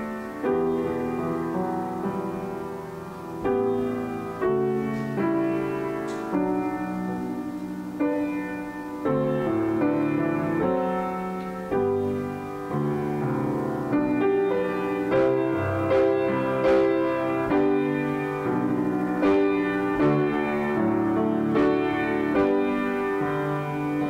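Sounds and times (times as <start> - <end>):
grand piano playing slow chords: 0.0 - 24.0.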